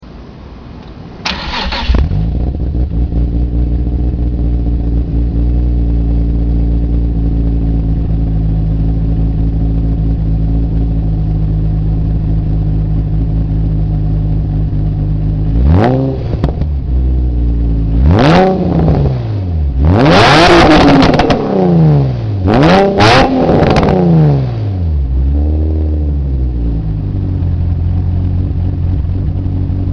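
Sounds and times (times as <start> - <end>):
car engine starting and revving: 1.2 - 29.9.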